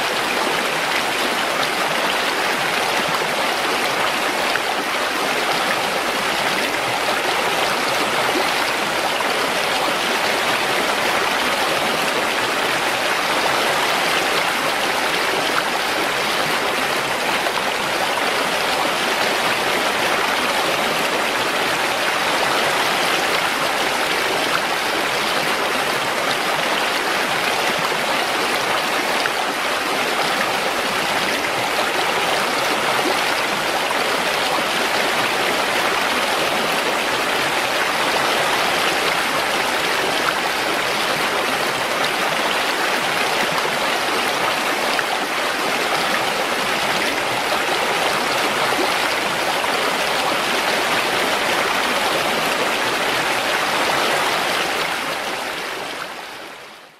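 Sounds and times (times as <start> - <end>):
waterfall pouring over rocks: 0.0 - 56.7.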